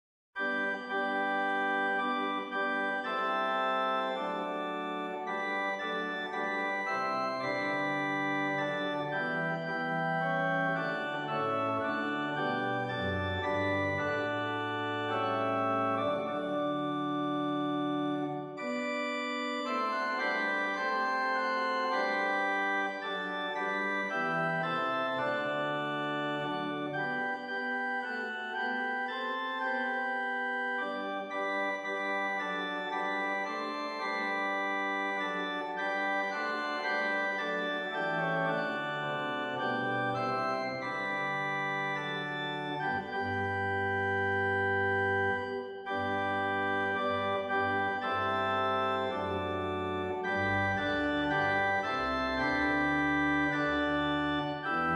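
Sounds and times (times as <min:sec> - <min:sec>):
instrumental music of held chords: 0:00.4 - 0:54.9.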